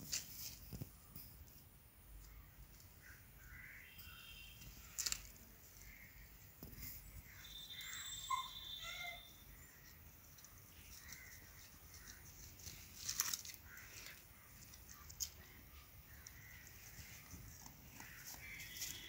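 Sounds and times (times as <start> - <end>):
faint birds calling: 0.6 - 19.0.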